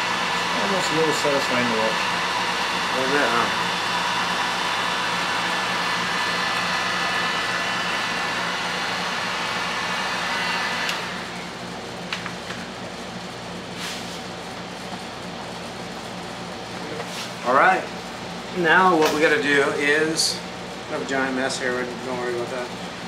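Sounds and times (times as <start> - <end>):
whirring blower motor: 0.0 - 23.0.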